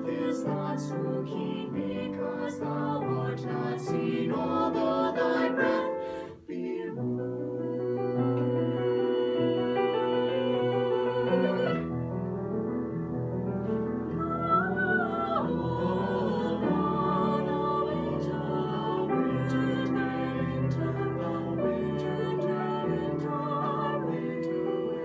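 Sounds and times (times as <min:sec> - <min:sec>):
classical solo voice singing: 0:00.0 - 0:12.1, 0:14.0 - 0:25.0
piano accompaniment: 0:00.0 - 0:25.0.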